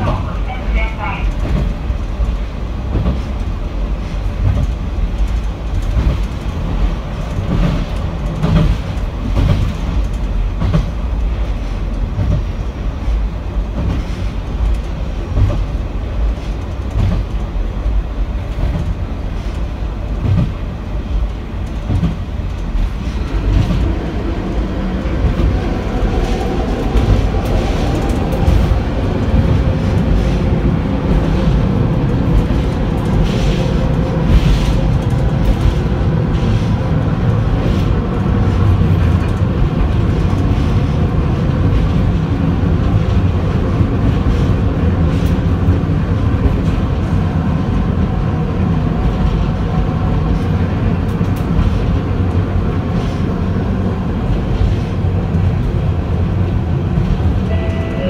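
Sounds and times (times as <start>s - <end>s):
railcar engine rumble: 0.0s - 58.0s.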